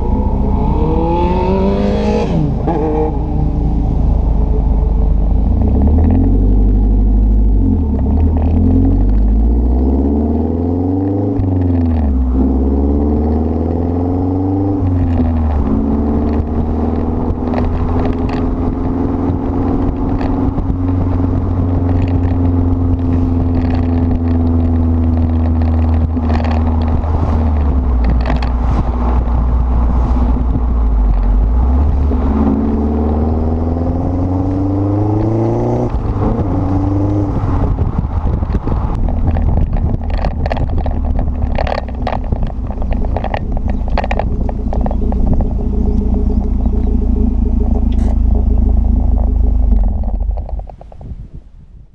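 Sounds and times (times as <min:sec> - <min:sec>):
car engine revving through gears: 0:00.0 - 0:51.0.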